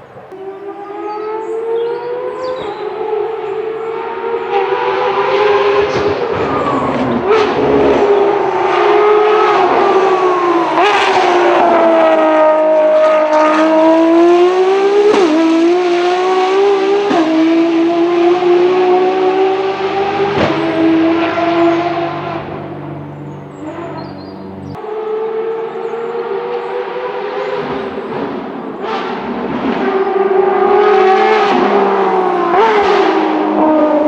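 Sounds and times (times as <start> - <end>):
racing car engine at high revs: 0.0 - 34.0.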